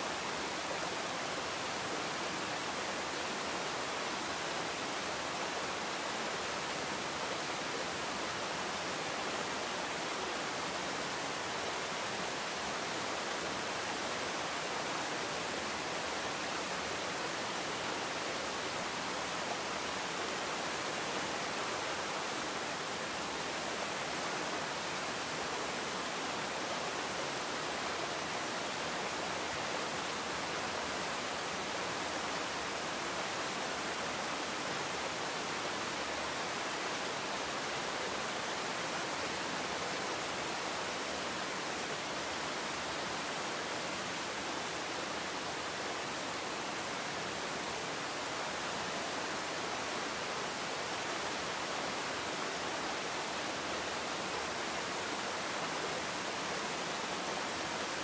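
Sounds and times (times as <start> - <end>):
waterfall rushing over rocks: 0.0 - 58.0.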